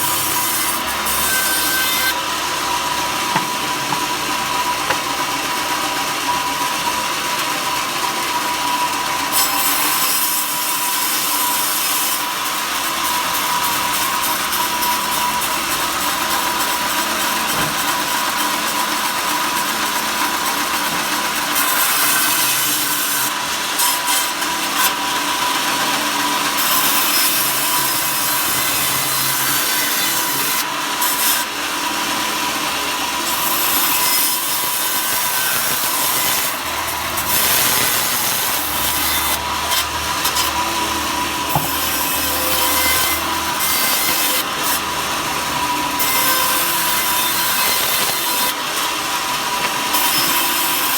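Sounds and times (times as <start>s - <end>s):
saw cutting wood: 0.0s - 50.9s.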